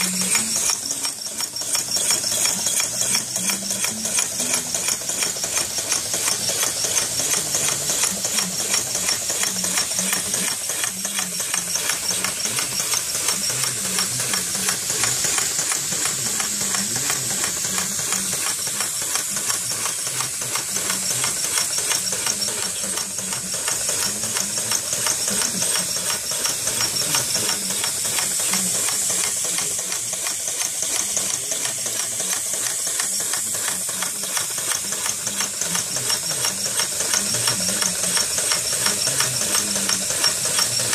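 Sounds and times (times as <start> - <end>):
model engine clattering: 0.0 - 40.9.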